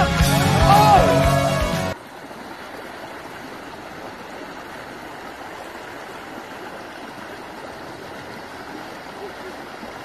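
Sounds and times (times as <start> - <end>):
stream rushing over rocks: 0.1 - 10.0.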